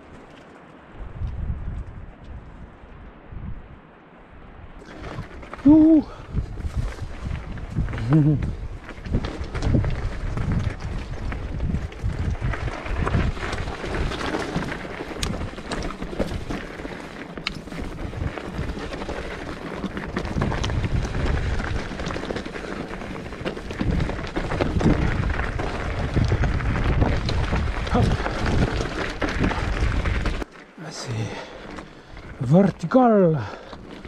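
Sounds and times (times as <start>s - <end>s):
wind rumbling on microphone: 0.0s - 34.0s
bike rattling: 4.8s - 34.0s
tyres on loose stones: 4.8s - 34.0s.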